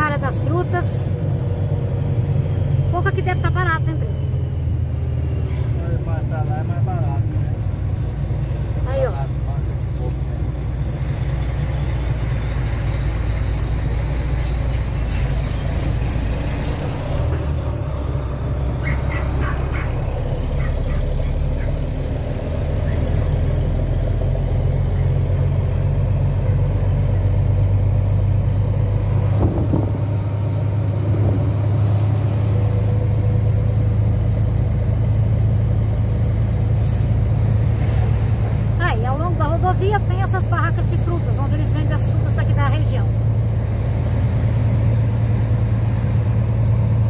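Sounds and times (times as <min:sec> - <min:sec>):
road noise: 0:00.0 - 0:47.0
truck diesel engine drone: 0:00.0 - 0:47.0.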